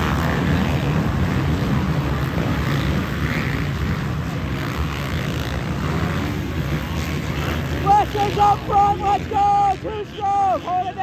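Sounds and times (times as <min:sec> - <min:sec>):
motocross bikes racing: 0:00.0 - 0:11.0.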